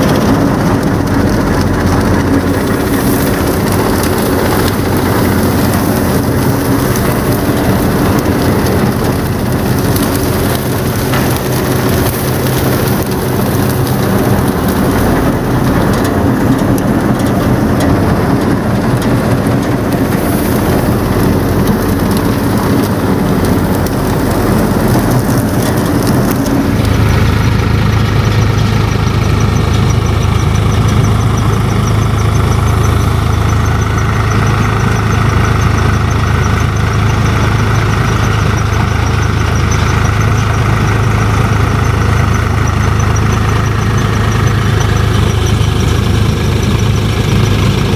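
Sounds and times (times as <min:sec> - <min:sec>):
straw rushing through thresher: 0:00.0 - 0:47.9
tractor engine drone: 0:00.0 - 0:47.9.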